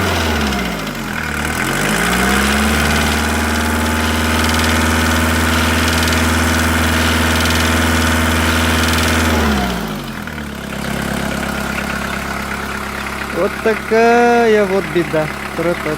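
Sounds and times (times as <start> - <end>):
diesel engine revving with clatter: 0.0 - 15.9.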